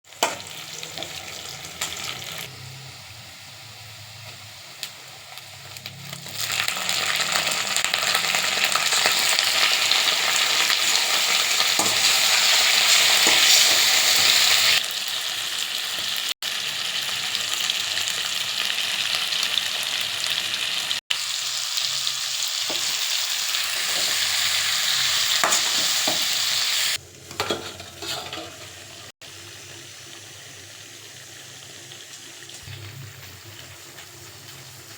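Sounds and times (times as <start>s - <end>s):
chicken frying in hot oil: 0.0s - 34.9s.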